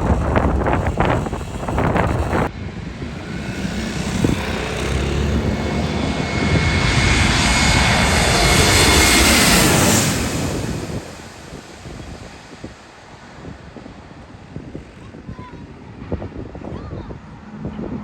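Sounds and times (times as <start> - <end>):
airplane engines passing: 0.0 - 18.0
wind buffeting microphone: 0.0 - 18.0.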